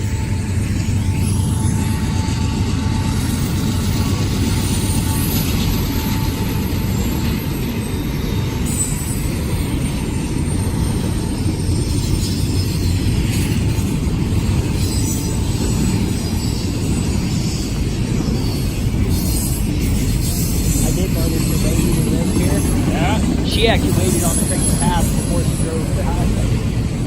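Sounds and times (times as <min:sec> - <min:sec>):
freight train rolling past: 0:00.0 - 0:27.0.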